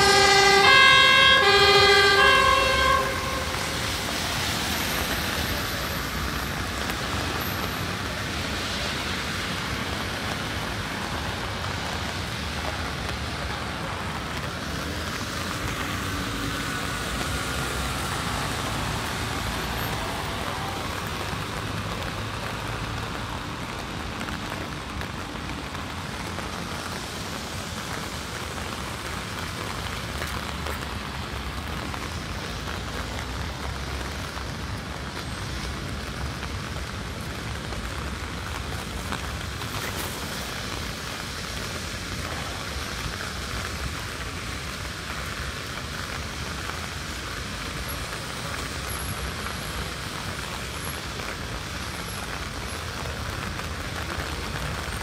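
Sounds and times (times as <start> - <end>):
cars passing on wet road: 0.0 - 55.0
steady rain falling: 0.0 - 55.0.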